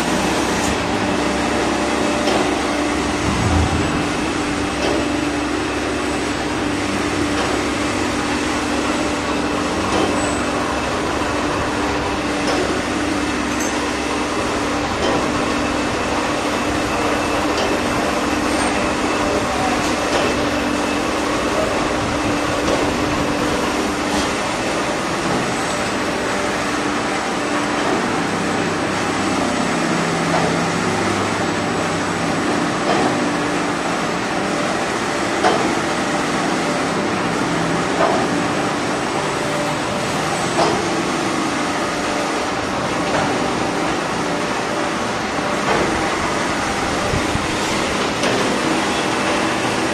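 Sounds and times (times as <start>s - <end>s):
constant machine hum: 0.0s - 49.9s.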